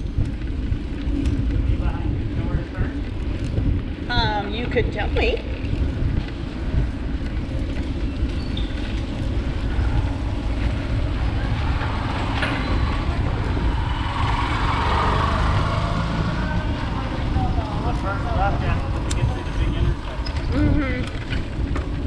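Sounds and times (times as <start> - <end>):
road and traffic noise: 0.0 - 22.0
wind buffeting microphone: 0.0 - 22.0.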